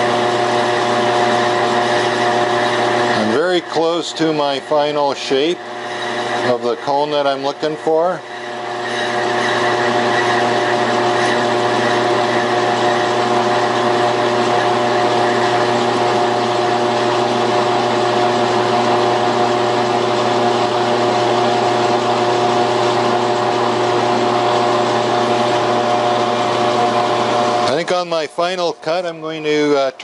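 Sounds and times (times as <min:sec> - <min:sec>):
metal lathe gear whine: 0:00.0 - 0:30.0.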